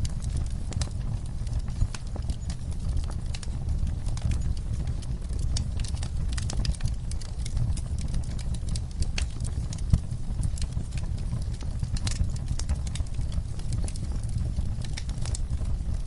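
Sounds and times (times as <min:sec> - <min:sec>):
fire crackling and popping: 0:00.0 - 0:16.0
fire rumbling in fireplace: 0:00.0 - 0:16.0.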